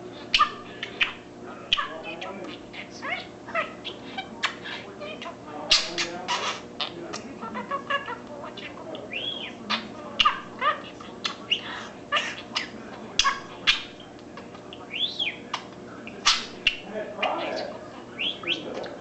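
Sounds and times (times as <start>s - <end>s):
budgerigar chattering: 0.3s - 19.0s.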